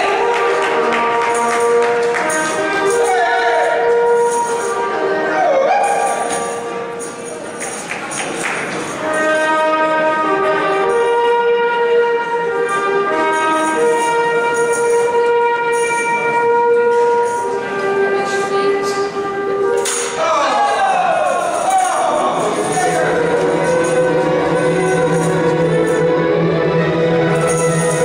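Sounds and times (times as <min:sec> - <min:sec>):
trumpet playing a slow melody: 0:00.0 - 0:07.3, 0:09.0 - 0:20.2, 0:22.2 - 0:28.0.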